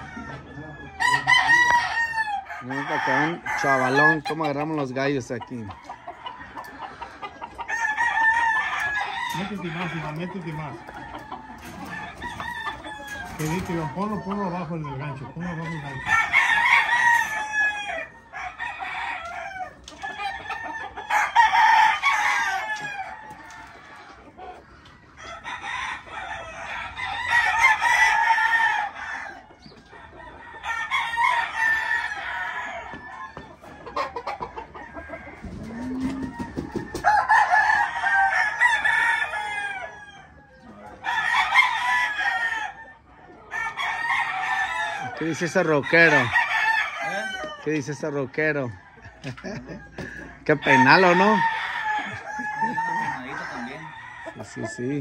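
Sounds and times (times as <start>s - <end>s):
roosters crowing: 0.0s - 55.0s.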